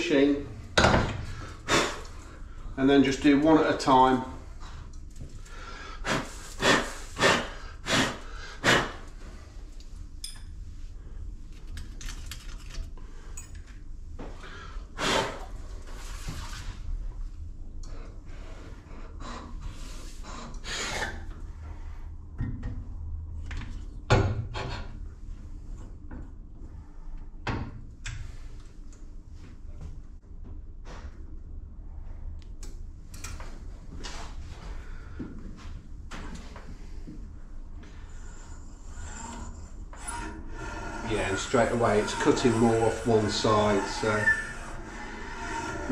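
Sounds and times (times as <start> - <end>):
low steady hum: 0.0 - 45.9.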